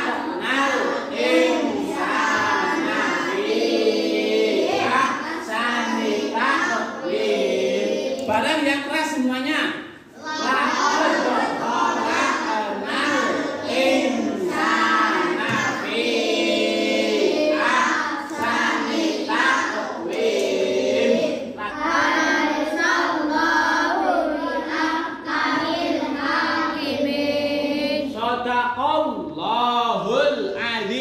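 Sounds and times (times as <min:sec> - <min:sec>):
children chanting in unison: 0:00.0 - 0:08.3, 0:10.0 - 0:28.2.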